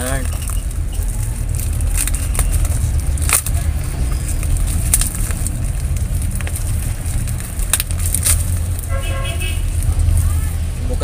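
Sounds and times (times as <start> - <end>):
plastic wrapping crinkling: 0.0 - 9.0
low rumble: 0.0 - 11.0.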